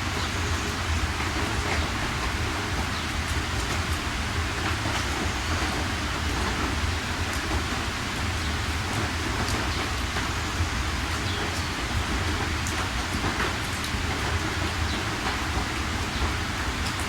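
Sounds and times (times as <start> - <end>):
heavy rainfall: 0.0 - 17.0.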